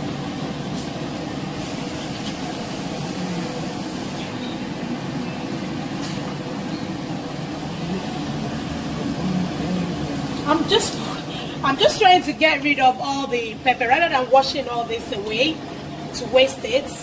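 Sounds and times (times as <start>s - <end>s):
extractor fan humming: 0.0s - 17.0s.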